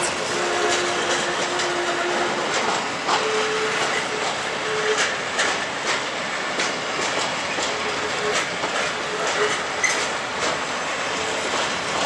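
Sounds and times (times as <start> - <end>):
wheels clicking over rail joints: 0.0 - 10.7
freight train wagons rolling: 0.0 - 12.0.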